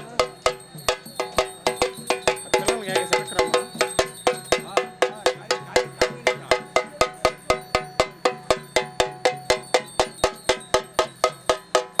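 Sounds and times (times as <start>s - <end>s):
struck metal percussion: 0.0s - 12.0s.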